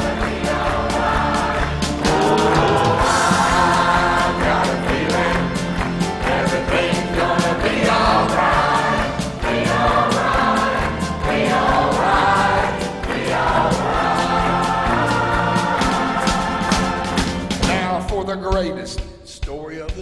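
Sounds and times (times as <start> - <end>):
choir singing gospel: 0.0 - 18.1
live band playing: 0.0 - 19.1.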